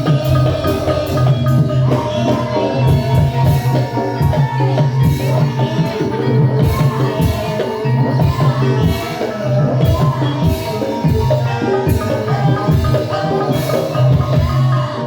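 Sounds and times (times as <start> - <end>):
drum strokes: 0.0 - 15.0
keyed percussion melody: 0.0 - 15.0.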